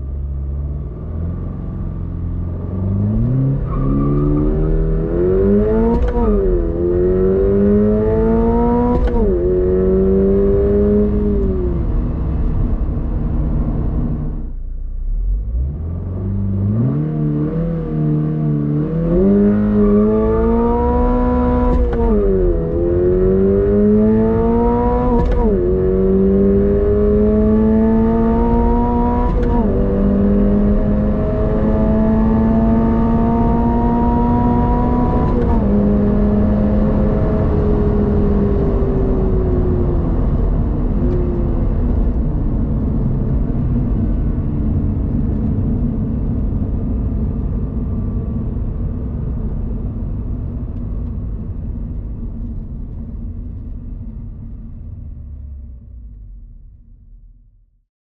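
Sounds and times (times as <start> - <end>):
car engine accelerating hard: 0.0 - 54.3.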